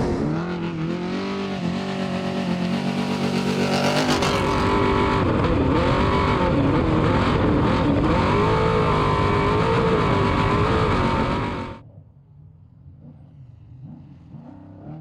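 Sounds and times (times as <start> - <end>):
race vehicle engine running hard: 0.0 - 11.8, 12.8 - 15.0.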